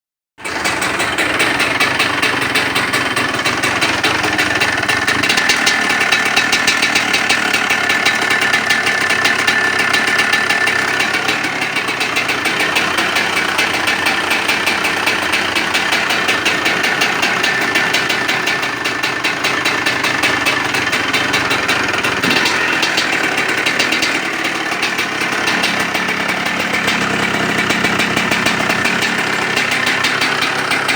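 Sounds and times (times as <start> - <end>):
two-stroke engine idling: 0.4 - 30.9.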